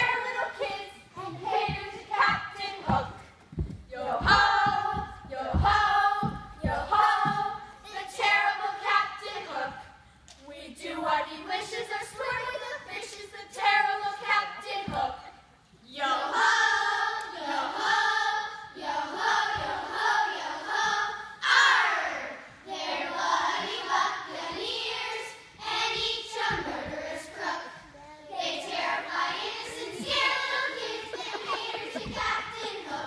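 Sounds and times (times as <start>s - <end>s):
children singing together: 0.0s - 3.2s, 3.9s - 10.0s, 10.7s - 33.0s.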